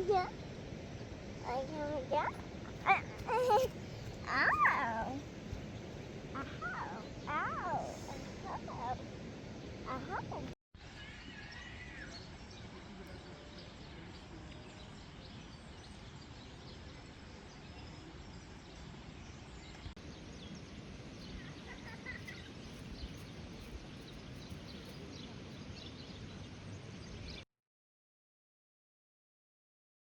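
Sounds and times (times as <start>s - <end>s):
outdoor background noise: 0.0s - 27.4s.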